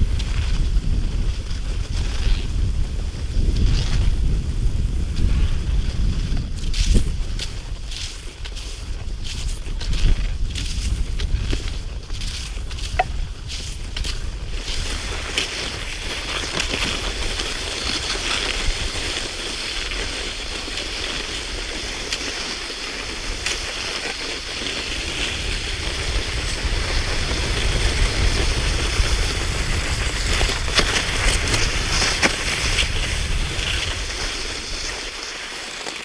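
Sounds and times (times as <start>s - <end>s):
wind rumbling on microphone: 0.0s - 35.5s
skis swishing over snow: 0.0s - 36.0s.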